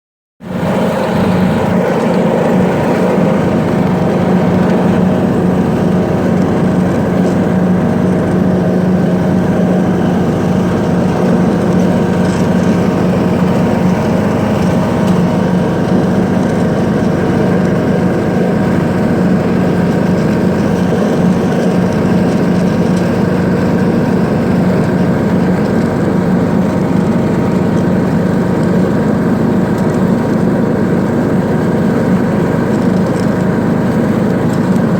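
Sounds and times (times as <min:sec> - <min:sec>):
riding lawn mower engine running: 0:00.4 - 0:34.9.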